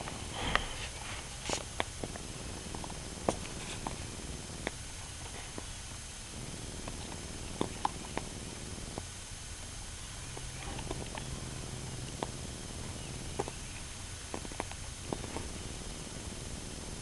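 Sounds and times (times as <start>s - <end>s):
dog chewing crunches: 0.0s - 9.2s, 9.8s - 16.6s
low background noise: 0.0s - 17.0s.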